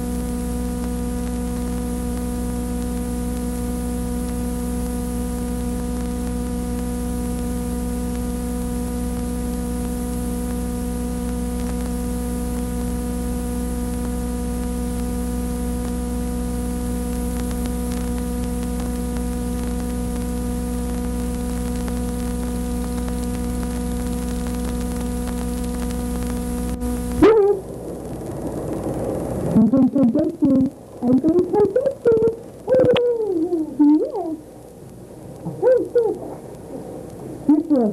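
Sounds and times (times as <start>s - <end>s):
constant hiss: 0.0s - 37.9s
electrical mains hum: 0.0s - 37.9s.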